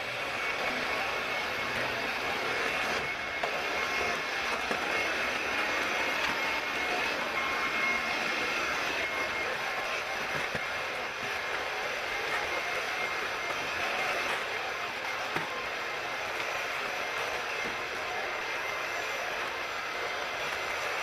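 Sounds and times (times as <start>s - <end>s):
thin high whine: 0.0s - 21.0s.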